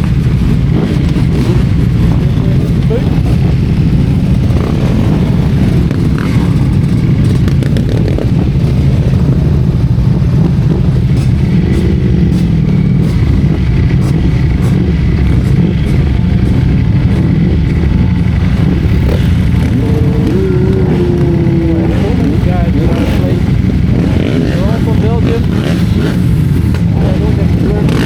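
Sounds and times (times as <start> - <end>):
motorcycle engine rumbling: 0.0 - 28.0.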